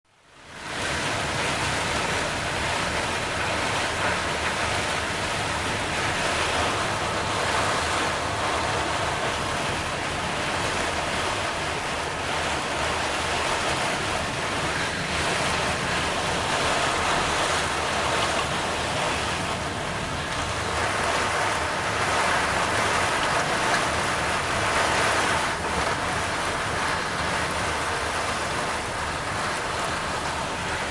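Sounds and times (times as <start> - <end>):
heavy rain: 0.1 - 30.9
strong wind: 0.4 - 30.9
waves rushing: 0.4 - 30.9.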